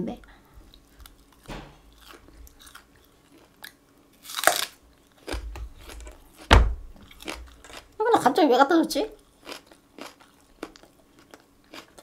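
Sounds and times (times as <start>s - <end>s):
chewing crispy fried chicken: 0.7s - 8.0s, 9.1s - 12.0s.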